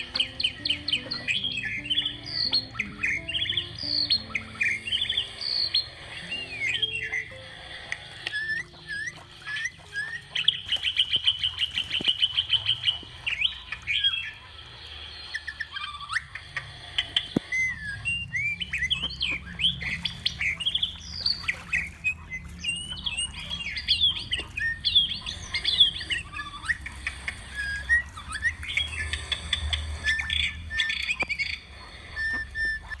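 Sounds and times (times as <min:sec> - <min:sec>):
bird trill: 0:00.0 - 0:33.0
birds chirping and calling: 0:00.0 - 0:33.0.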